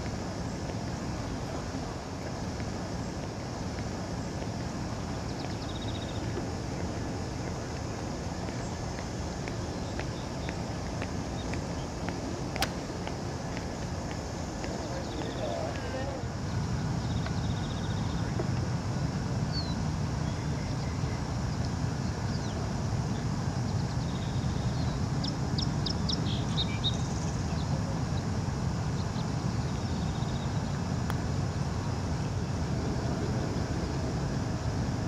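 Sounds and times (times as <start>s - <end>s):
low outdoor rumble: 0.0s - 35.0s.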